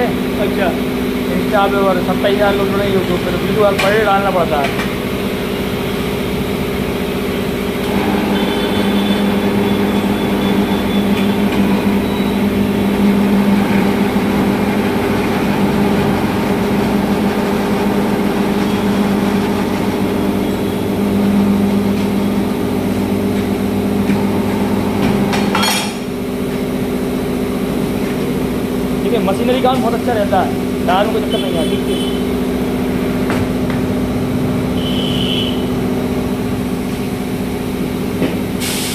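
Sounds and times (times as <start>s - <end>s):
motor droning: 0.0s - 38.5s.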